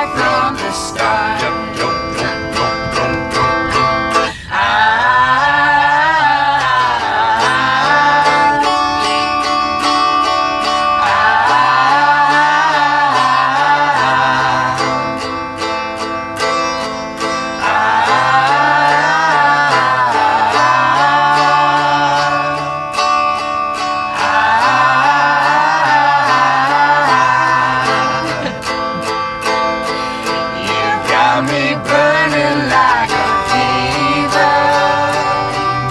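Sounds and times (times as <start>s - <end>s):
bass line: 0.0s - 35.9s
plucked guitar: 0.0s - 35.9s
wavering melody line: 0.0s - 35.9s.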